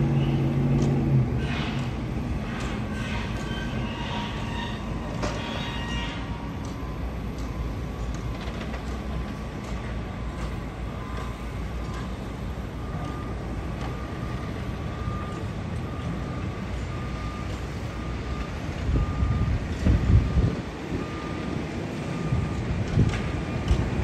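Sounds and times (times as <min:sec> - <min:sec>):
heavy machinery rumbling: 0:00.0 - 0:24.0
reversing alarm beeping: 0:00.0 - 0:24.0.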